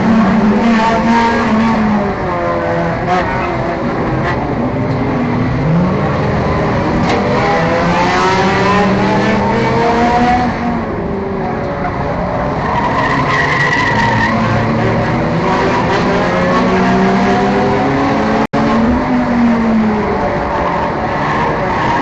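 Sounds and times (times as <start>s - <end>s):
race car engines accelerating: 0.0s - 22.0s.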